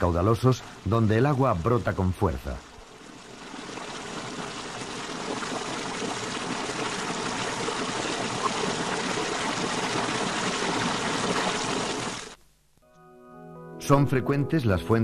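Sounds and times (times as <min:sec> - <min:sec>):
water rushing from spring: 0:00.0 - 0:12.4.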